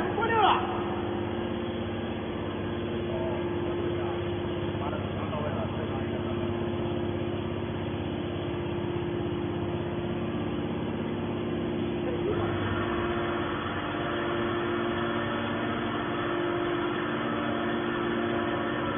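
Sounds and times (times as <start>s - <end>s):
hydraulic baler motor humming: 0.0s - 18.9s.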